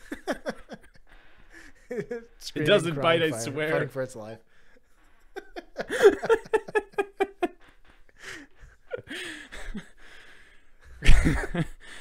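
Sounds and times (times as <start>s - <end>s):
men laughing: 0.0s - 3.9s, 4.9s - 10.0s, 10.8s - 11.9s.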